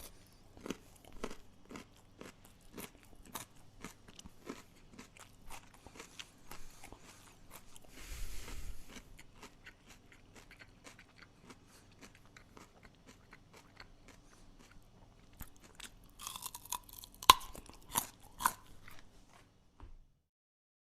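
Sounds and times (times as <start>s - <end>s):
person chewing crunchy food: 0.0s - 19.6s.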